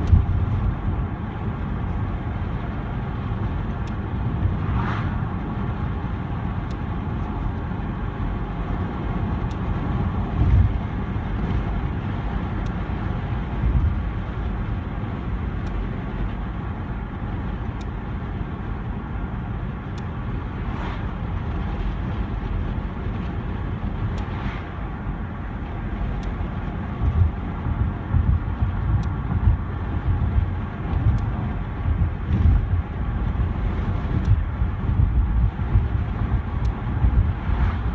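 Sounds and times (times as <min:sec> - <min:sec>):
car engine and road noise: 0:00.0 - 0:37.9.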